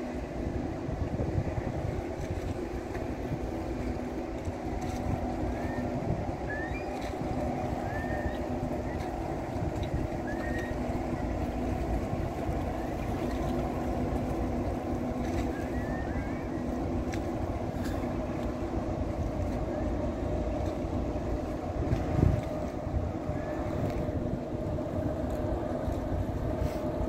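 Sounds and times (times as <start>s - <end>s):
ferry engines humming: 0.0s - 27.0s
wind rumbling on microphone: 0.0s - 27.0s.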